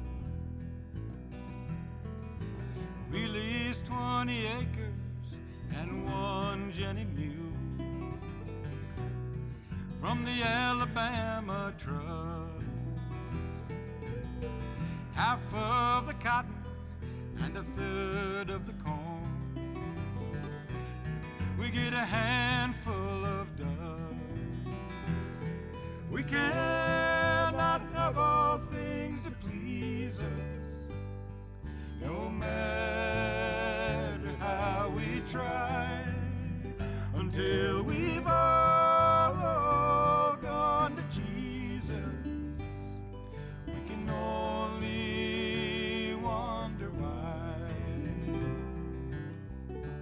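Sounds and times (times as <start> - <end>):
acoustic guitar: 0.0 - 50.0
bass: 0.0 - 50.0.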